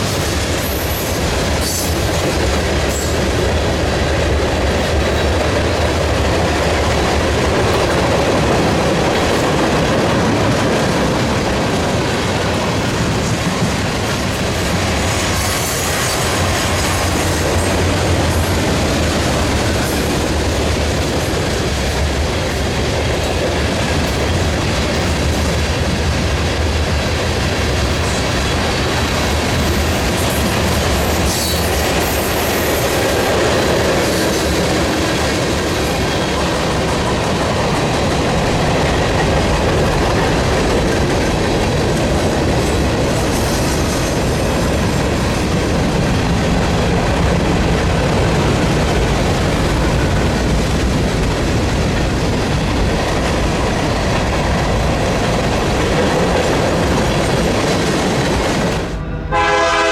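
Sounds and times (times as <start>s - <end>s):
freight train wheels clacking: 0.0s - 59.9s.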